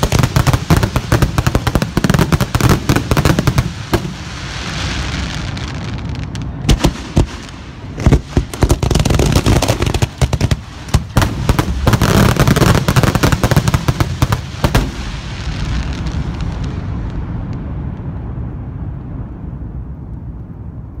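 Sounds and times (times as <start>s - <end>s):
low rumble: 2.7s - 21.0s.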